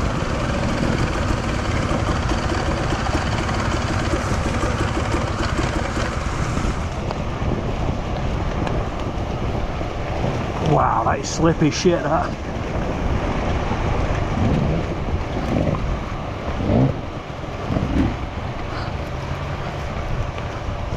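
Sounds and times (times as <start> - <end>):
dirt bike engine running: 0.0 - 18.6
wind on microphone: 0.0 - 20.9.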